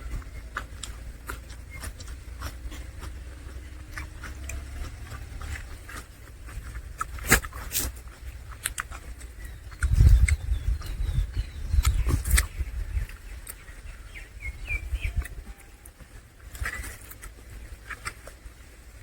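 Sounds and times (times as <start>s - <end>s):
chewing mouth sounds: 0.0s - 19.0s
low steady rumble: 0.0s - 19.0s.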